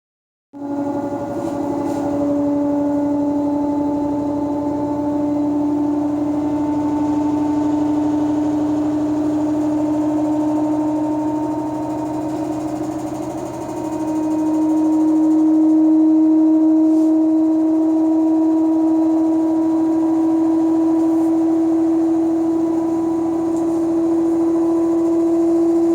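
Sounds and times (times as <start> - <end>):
washer-dryer spinning with whining hum: 0.6 - 25.9.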